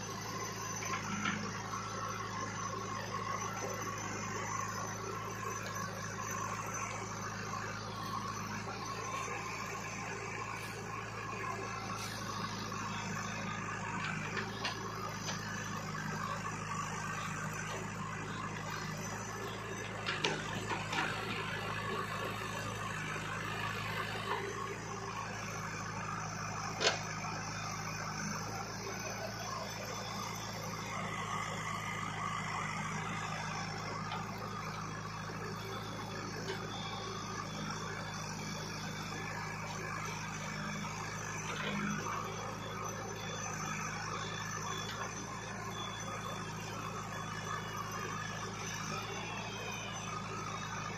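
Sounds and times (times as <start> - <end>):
backhoe digging earth: 0.0 - 50.9
diesel engine running: 0.0 - 50.9.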